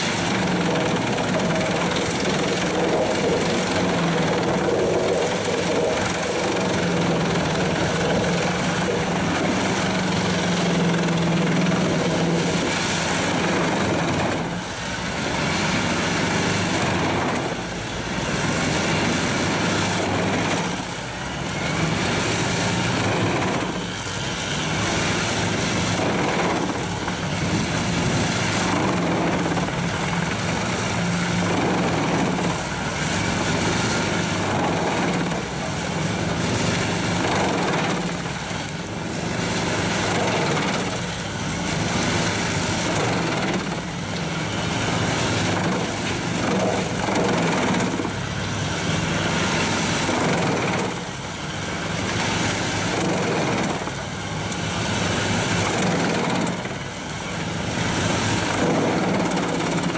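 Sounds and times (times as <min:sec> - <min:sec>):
wood chipper droning: 0:00.0 - 0:59.9.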